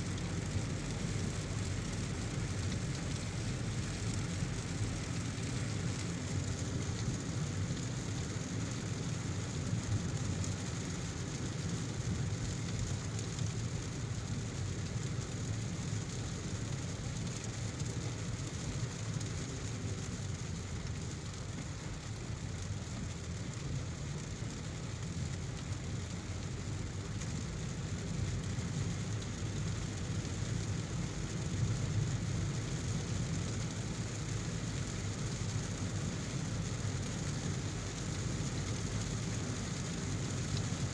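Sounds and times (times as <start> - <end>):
car road noise on wet road: 0.0 - 40.9
heavy rain: 0.0 - 40.9.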